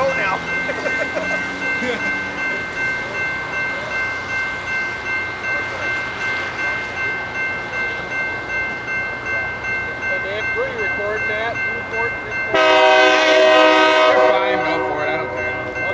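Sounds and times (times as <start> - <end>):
high steady tones: 0.0 - 15.9
train rumbling on rails: 0.0 - 15.9.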